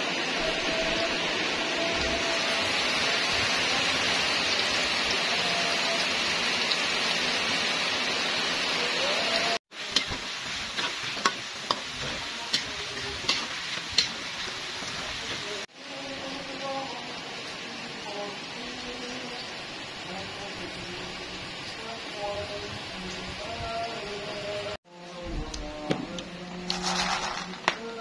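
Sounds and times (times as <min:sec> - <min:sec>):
skins deep-frying in hot oil: 0:00.0 - 0:24.8.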